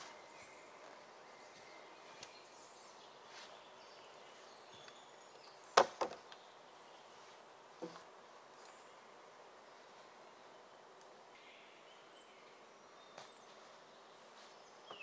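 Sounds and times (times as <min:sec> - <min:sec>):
forest ambience: 0:00.0 - 0:15.0.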